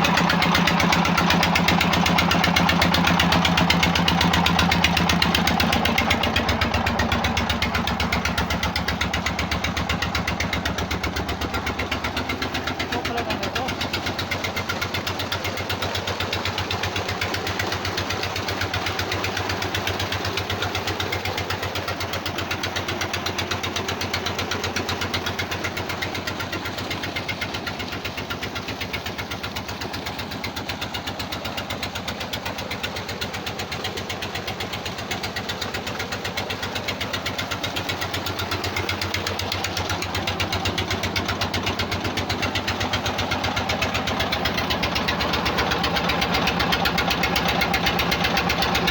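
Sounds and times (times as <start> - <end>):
diesel engine knocking: 0.0 - 48.9.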